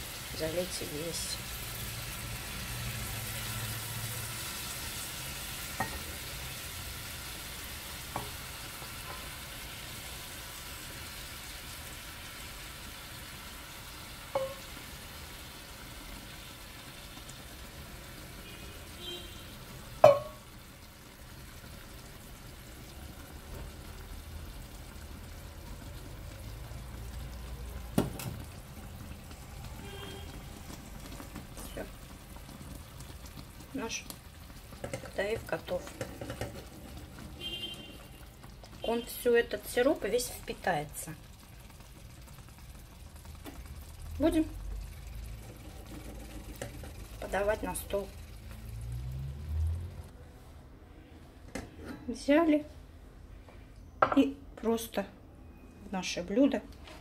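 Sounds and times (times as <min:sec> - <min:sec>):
syrup sizzling in a hot pan: 0:00.0 - 0:50.1.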